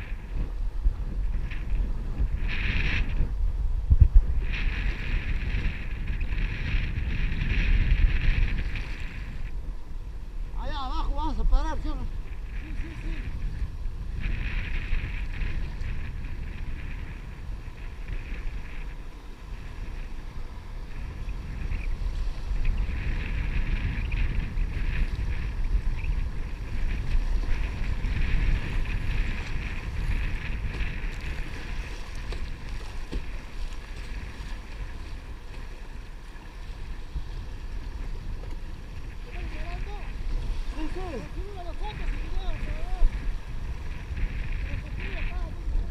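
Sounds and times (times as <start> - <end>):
wind rumbling on microphone: 0.0 - 45.9.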